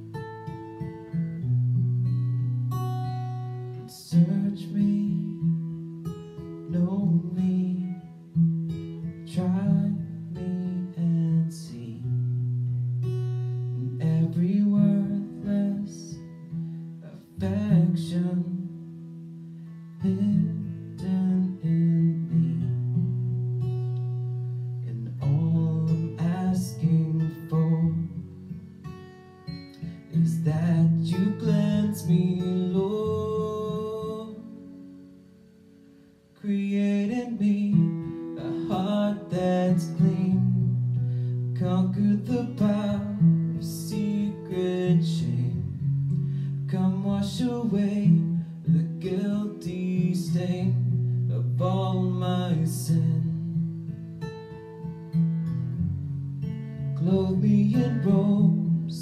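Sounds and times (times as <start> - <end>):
acoustic guitar strummed chords: 0.0 - 59.0.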